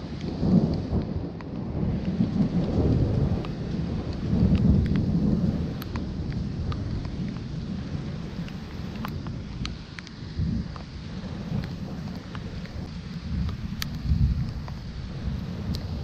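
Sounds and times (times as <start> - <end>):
raindrop ticks: 0.0 - 16.0
steady rain: 0.0 - 16.0
thunder rumbling: 0.0 - 16.0.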